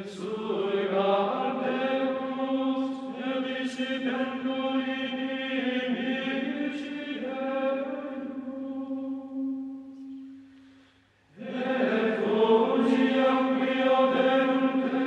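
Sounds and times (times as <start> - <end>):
choral chant: 0.0 - 10.4, 11.3 - 15.0.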